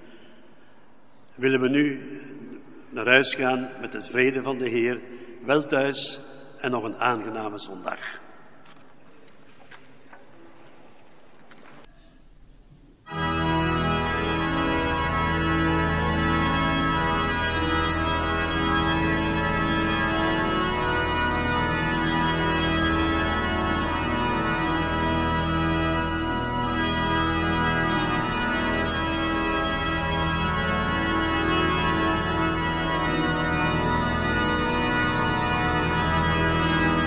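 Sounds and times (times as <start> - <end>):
church organ playing chords: 0.0 - 8.5, 13.1 - 37.0.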